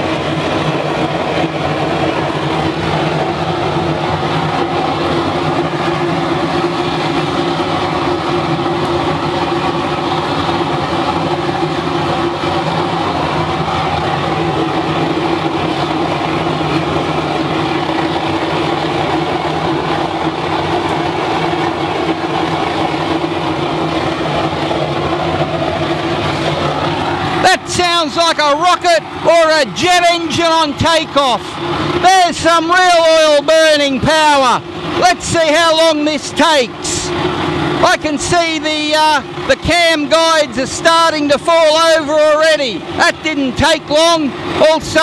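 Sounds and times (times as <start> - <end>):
burner flame roaring: 0.0 - 45.0.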